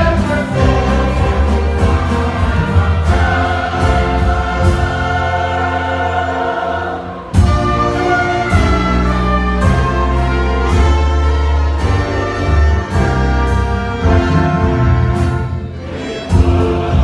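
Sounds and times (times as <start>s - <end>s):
choir singing a hymn: 0.0s - 17.0s
orchestral accompaniment: 0.0s - 17.0s.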